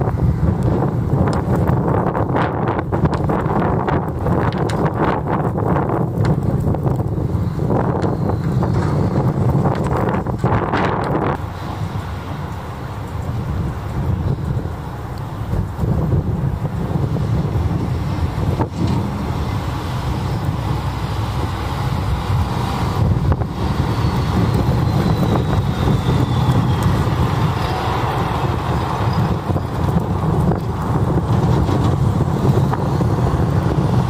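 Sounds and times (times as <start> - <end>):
trucks driving past rumbling: 0.0 - 34.0.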